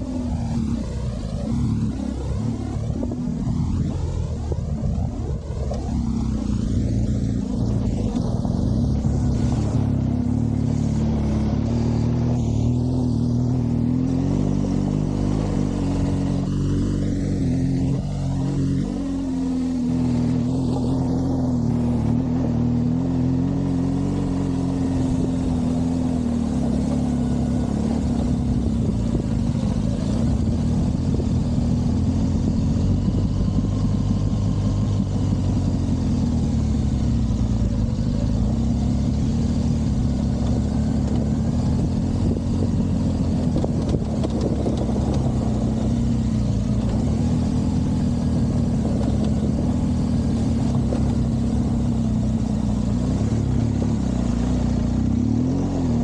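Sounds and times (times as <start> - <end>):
motorcycle engine riding: 0.0 - 56.0
steady rush of noise: 0.0 - 56.0.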